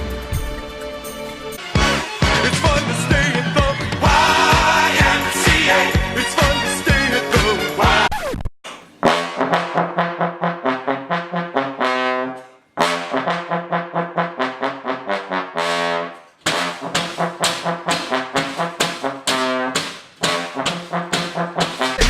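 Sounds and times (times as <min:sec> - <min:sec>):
brass instruments playing: 0:00.0 - 0:08.1, 0:09.0 - 0:22.0.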